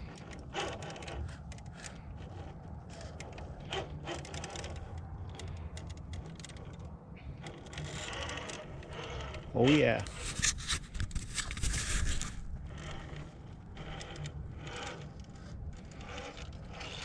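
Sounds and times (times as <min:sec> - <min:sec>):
electric motor whirring: 0:00.0 - 0:06.8, 0:07.4 - 0:17.0.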